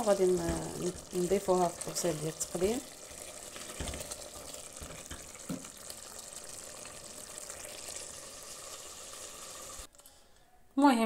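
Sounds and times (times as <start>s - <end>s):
stew bubbling in a pot: 0.0s - 9.9s.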